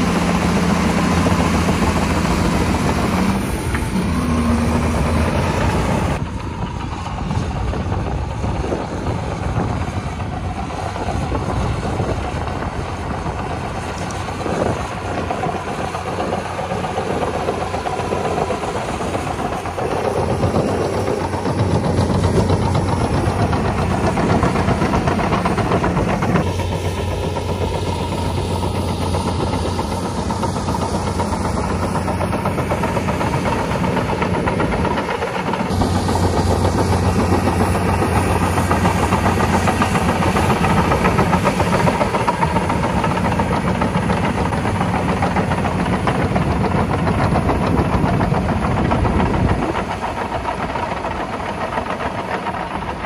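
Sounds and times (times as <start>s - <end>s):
bulldozer engine running: 0.0s - 53.0s.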